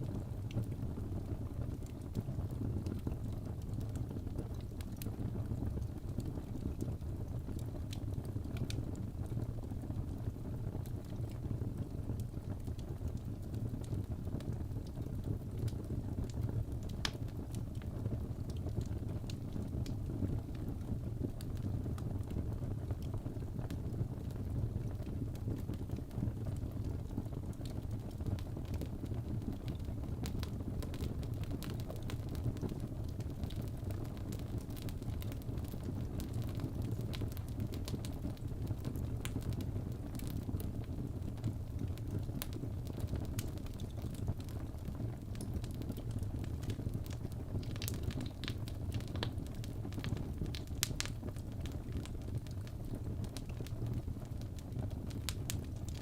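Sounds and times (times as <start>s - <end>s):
flames rumbling: 0.0s - 56.0s
logs crackling and popping: 0.1s - 56.0s.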